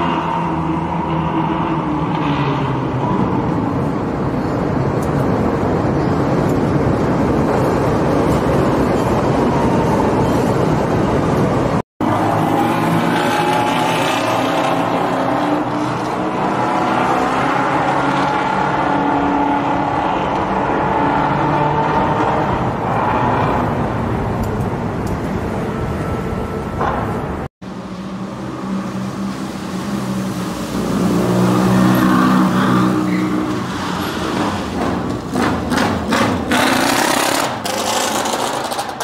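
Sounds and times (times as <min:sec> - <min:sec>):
car engines in traffic: 0:00.0 - 0:39.0
motorcycle engines: 0:00.0 - 0:39.0.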